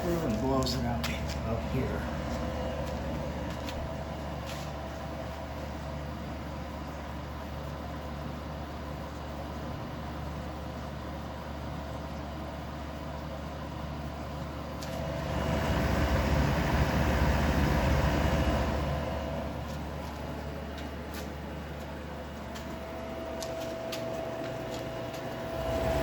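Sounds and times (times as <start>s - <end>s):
dehumidifier humming: 0.0s - 26.0s.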